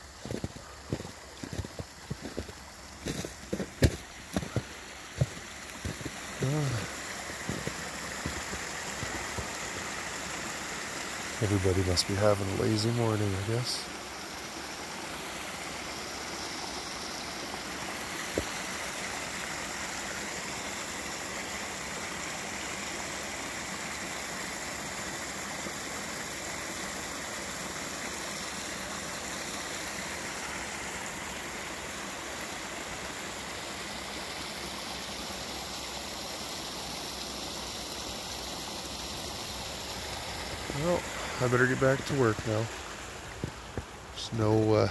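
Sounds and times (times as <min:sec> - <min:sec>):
creek flowing: 0:00.0 - 0:44.9.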